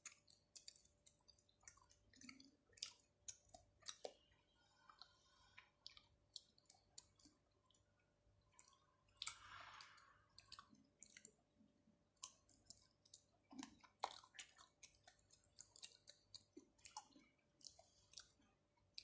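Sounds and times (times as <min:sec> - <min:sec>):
person chewing with wet mouth clicks: 0:00.0 - 0:11.5, 0:12.1 - 0:19.0.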